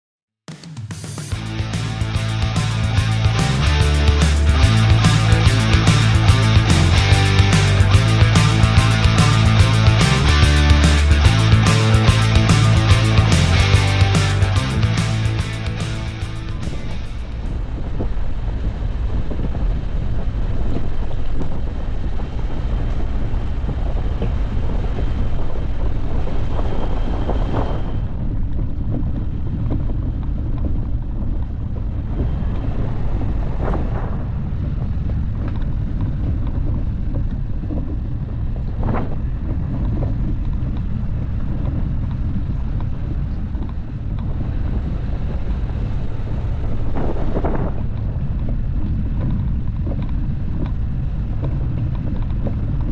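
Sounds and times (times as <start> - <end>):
engine and tyres rumbling: 1.2 - 52.9
wind buffeting microphone: 1.4 - 52.9.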